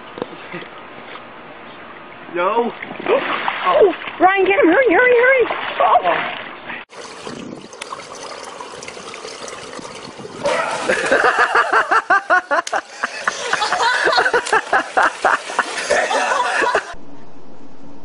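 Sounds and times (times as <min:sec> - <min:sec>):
pool water splashing: 0:02.4 - 0:17.0.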